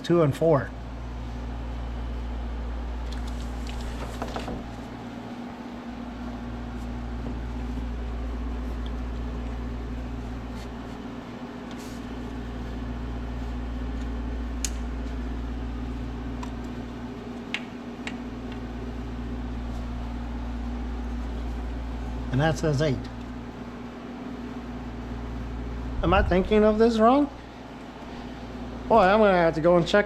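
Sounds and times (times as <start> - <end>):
machine electrical hum: 0.0 - 30.0.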